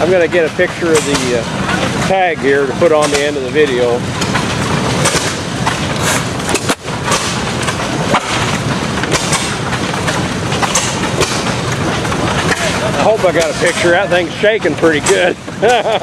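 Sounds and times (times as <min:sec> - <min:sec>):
engine firing bangs: 0:00.0 - 0:16.0
hit-and-miss engine clattering: 0:00.0 - 0:16.0.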